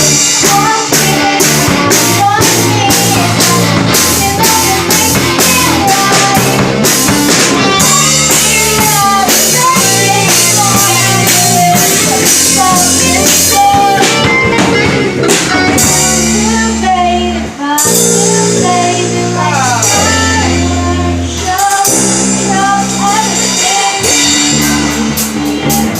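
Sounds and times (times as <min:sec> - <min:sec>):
rock band playing: 0:00.0 - 0:25.9.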